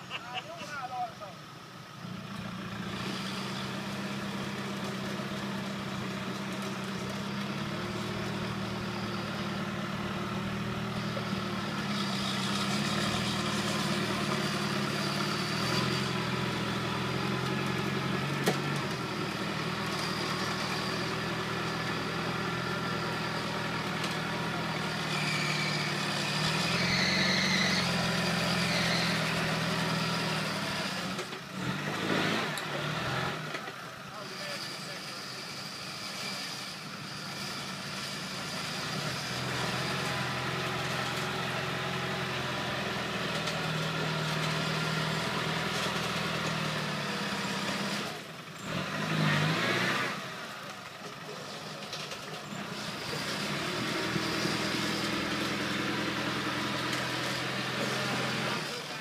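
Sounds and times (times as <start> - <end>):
diesel engine working at low revs: 0.0 - 59.0.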